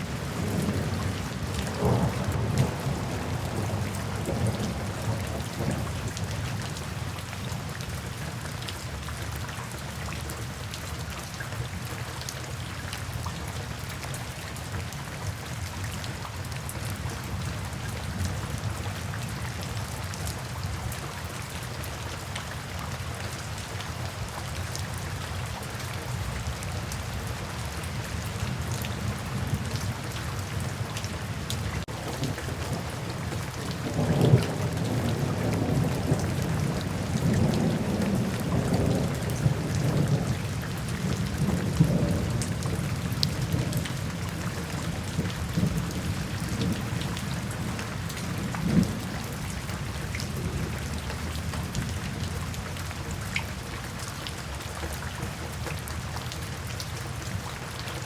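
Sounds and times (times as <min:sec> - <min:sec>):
low rain rumble: 0:00.0 - 0:58.0
rain drops hitting: 0:00.0 - 0:58.0.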